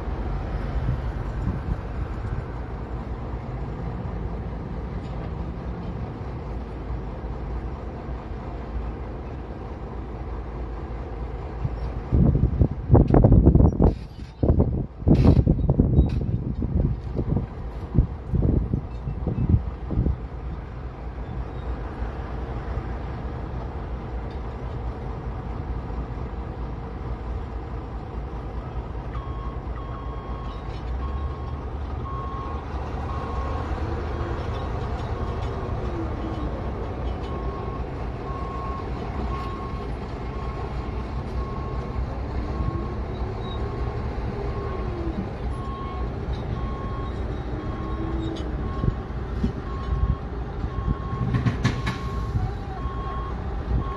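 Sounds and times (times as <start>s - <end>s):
heavy equipment diesel engines: 0.0s - 53.9s.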